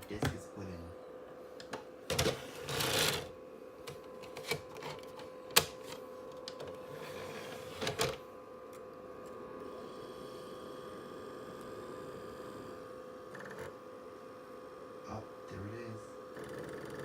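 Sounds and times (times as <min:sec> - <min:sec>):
console hum: 0:00.0 - 0:17.0
disc drive whir: 0:00.0 - 0:17.0.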